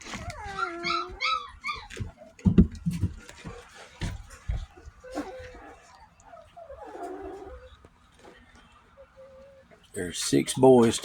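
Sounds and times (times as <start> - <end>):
puppies whimpering: 0.0 - 2.5, 3.2 - 10.0.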